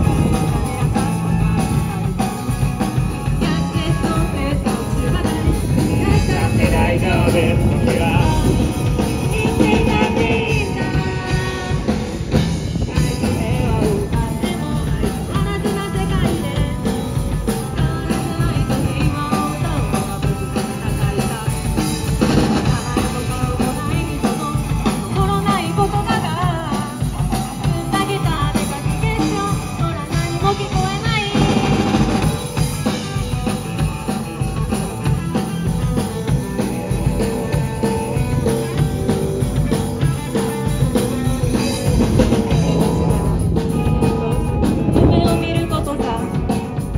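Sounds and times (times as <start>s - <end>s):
live rock band playing: 0.0s - 46.9s
steady drum beat: 0.0s - 46.9s.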